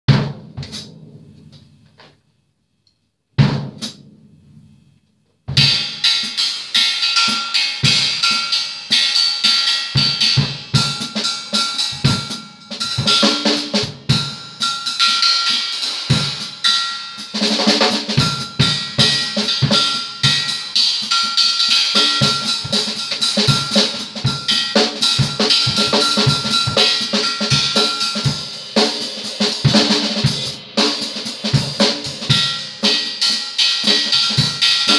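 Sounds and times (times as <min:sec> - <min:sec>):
drum kit playing: 0:00.1 - 0:02.1, 0:03.4 - 0:34.9
high metallic cymbal ring: 0:05.7 - 0:34.9.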